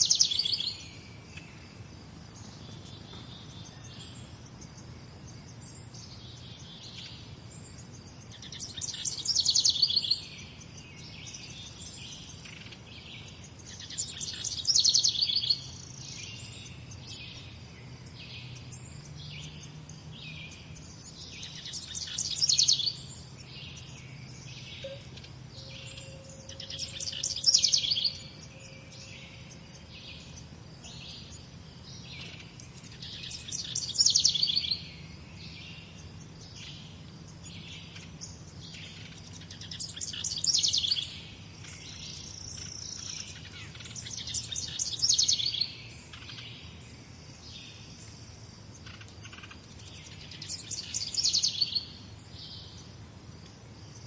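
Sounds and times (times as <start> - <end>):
bird singing rapid trill: 0.0 - 53.0
soft birds chirping: 0.0 - 54.0.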